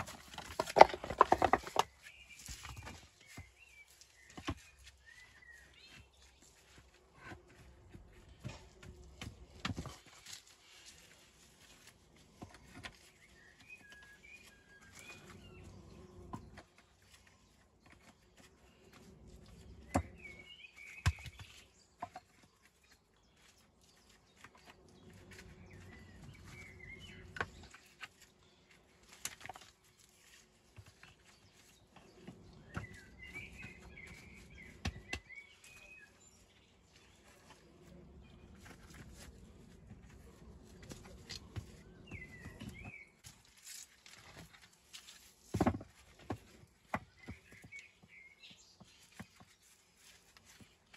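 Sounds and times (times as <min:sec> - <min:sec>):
stones scraping and rustling: 0:00.0 - 0:48.0
birds chirping: 0:00.0 - 0:50.9.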